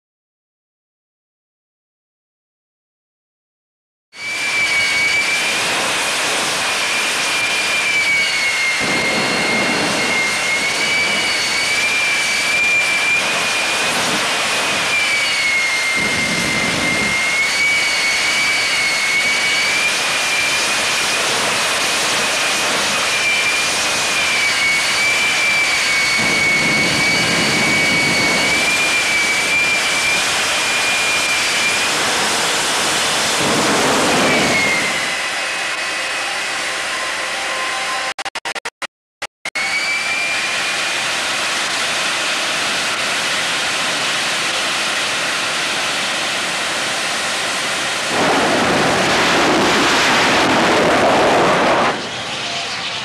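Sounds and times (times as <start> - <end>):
jet turbine engine whining: 4.2 - 38.8, 39.5 - 53.0.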